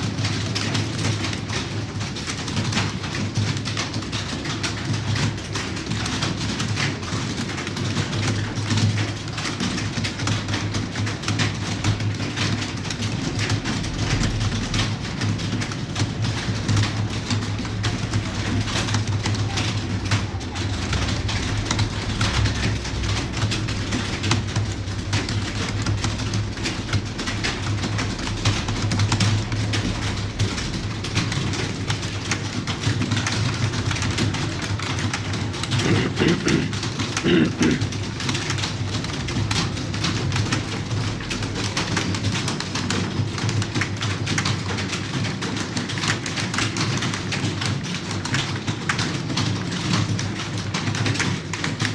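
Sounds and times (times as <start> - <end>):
computer keyboard typing: 0.0 - 51.9.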